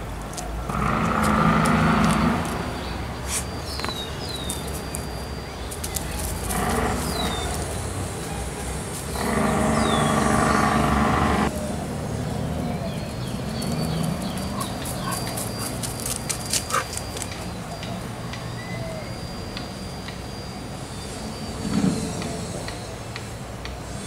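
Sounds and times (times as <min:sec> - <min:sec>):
birds chirping faintly: 0:00.4 - 0:11.6, 0:12.2 - 0:23.4.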